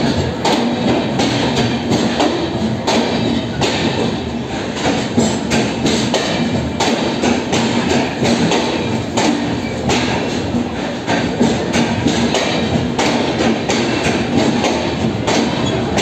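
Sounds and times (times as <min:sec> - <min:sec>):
train wheels knocking on rail joints: 0:00.0 - 0:16.0.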